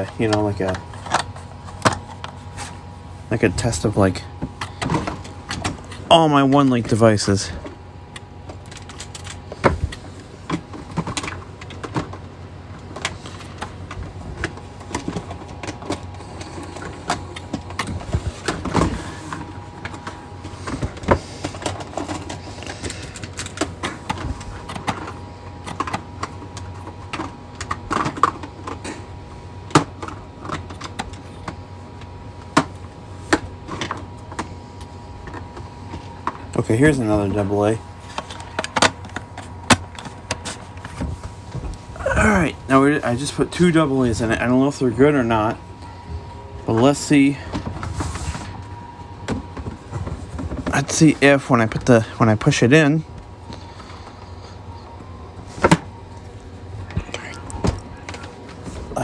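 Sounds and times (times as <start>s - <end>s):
faint steady whine: 0.0s - 59.0s.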